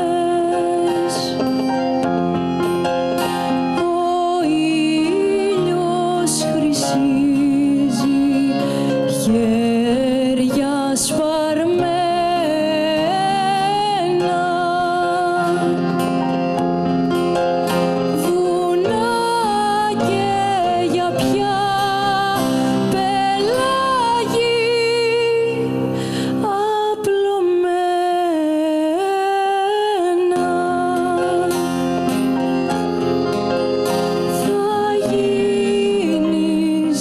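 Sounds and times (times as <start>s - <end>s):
woman singing with vibrato: 0.0s - 1.7s, 3.6s - 16.4s, 18.0s - 31.7s, 34.2s - 37.0s
accordion: 0.0s - 27.4s, 28.2s - 37.0s
acoustic guitar: 0.0s - 37.0s
plucked strings: 0.0s - 37.0s.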